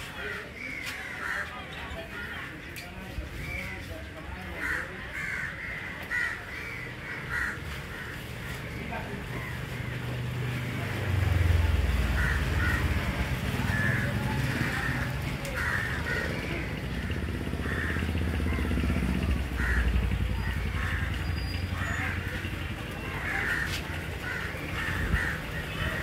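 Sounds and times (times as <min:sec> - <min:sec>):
crows cawing: 0:00.2 - 0:02.6, 0:04.5 - 0:10.0, 0:12.0 - 0:26.0
engine rumbling: 0:03.1 - 0:26.0.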